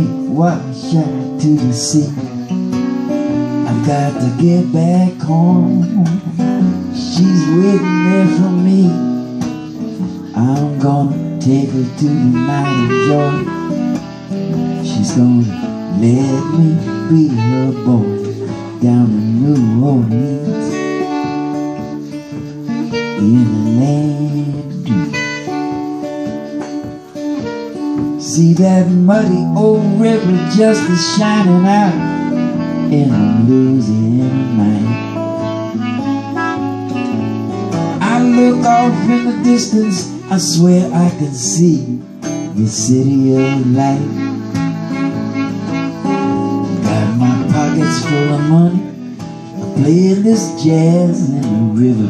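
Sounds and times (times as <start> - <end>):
person singing: 0.0 - 25.8, 27.4 - 52.0
clarinet melody: 0.0 - 52.0
strummed acoustic guitar: 0.0 - 52.0.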